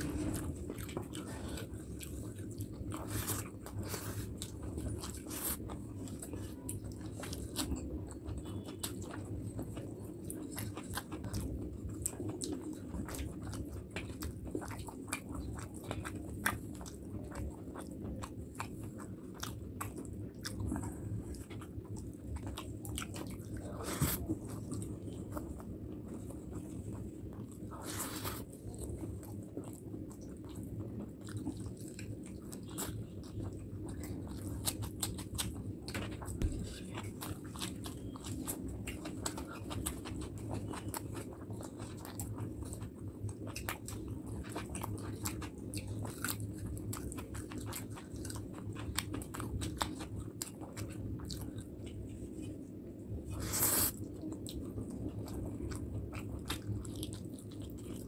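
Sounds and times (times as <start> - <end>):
close chewing mouth noises: 0.0 - 58.0
steady low hum: 0.0 - 58.0.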